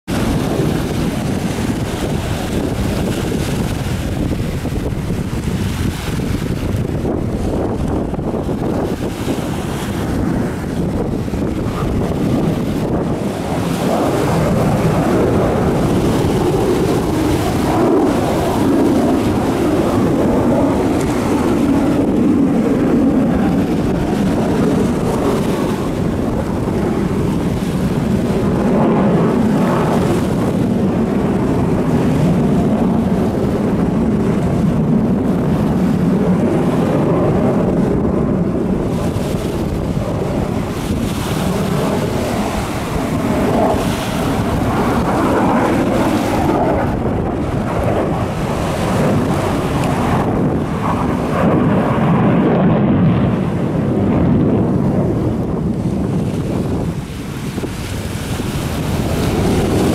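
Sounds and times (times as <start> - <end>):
distant jet engine rumble: 0.0 - 59.9
wind on microphone: 0.0 - 59.9.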